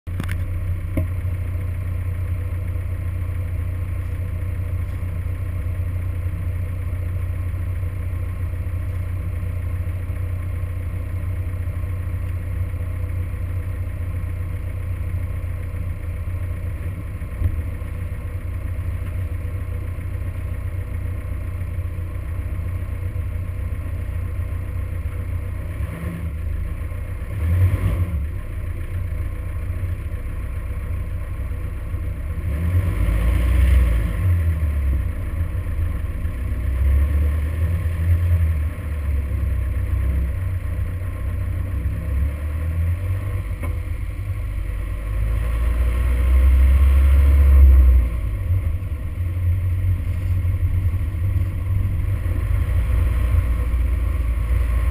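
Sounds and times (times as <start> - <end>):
truck engine idling: 0.1 - 27.5, 28.2 - 32.7, 34.2 - 46.8, 47.6 - 54.9.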